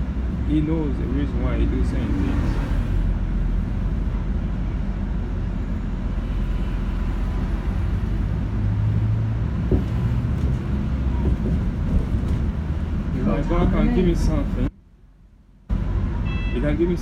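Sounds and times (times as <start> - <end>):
bus engine: 0.0 - 17.0
road rumble: 0.0 - 17.0.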